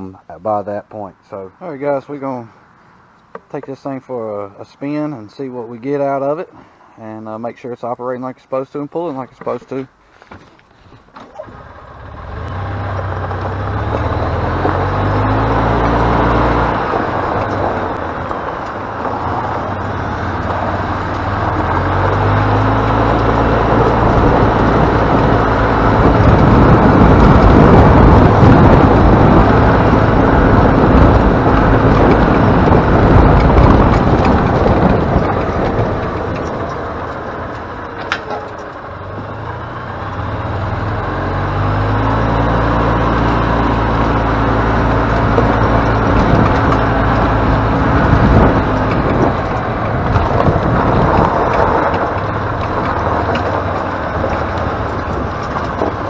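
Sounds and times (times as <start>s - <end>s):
golf cart engine running: 7.0s - 56.0s.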